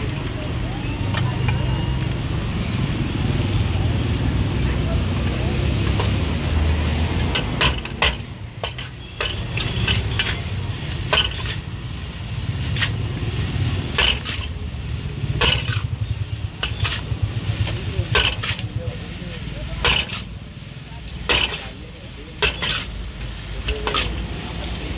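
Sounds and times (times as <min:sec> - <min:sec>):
noodles sizzling: 0:00.0 - 0:24.9
metal utensil scraping wok: 0:02.5 - 0:24.9.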